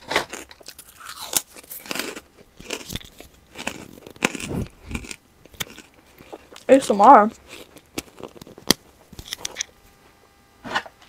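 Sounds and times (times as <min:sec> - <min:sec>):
person chewing brittle marshmallows: 0:00.0 - 0:09.6.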